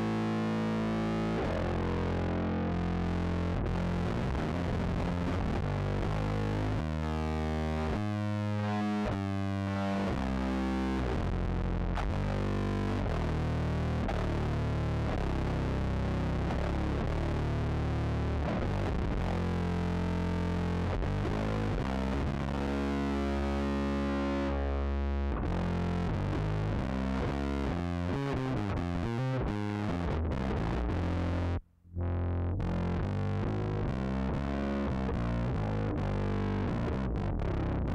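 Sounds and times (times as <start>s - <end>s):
electric bass held notes: 0.0s - 37.9s.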